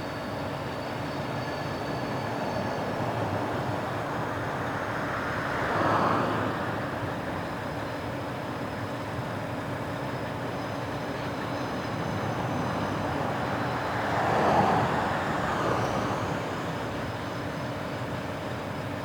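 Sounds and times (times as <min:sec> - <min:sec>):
freight train rumbling past: 0:00.1 - 0:08.0, 0:09.5 - 0:19.0.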